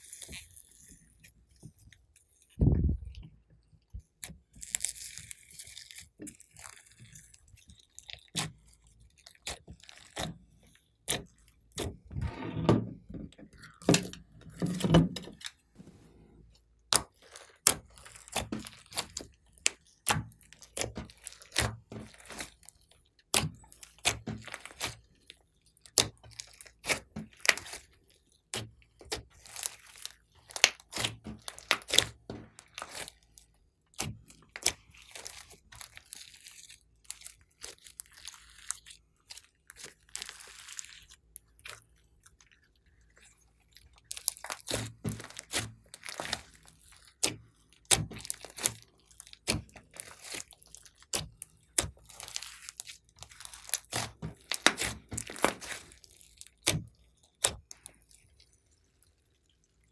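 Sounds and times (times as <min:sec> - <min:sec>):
hands squishing slime: 0:00.0 - 0:12.1, 0:13.4 - 0:59.7.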